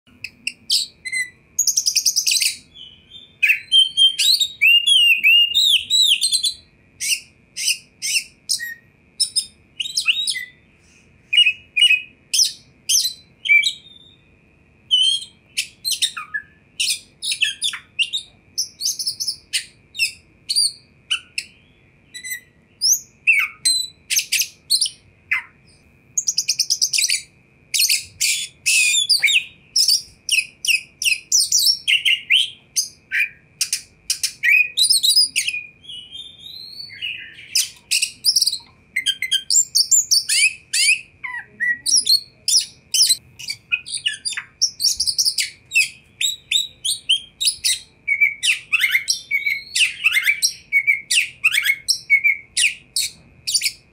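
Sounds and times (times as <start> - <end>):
songbird singing whistles and trills: 0.1 - 53.9.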